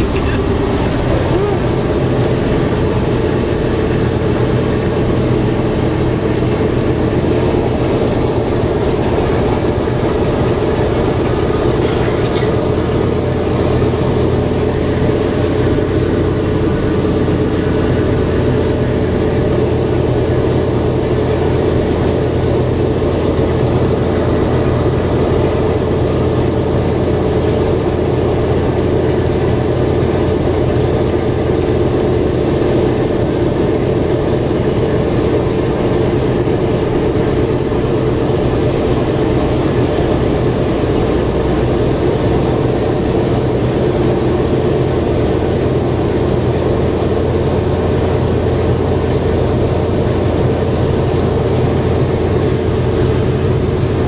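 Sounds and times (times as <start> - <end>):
radial engines rumbling: 0.0 - 54.0.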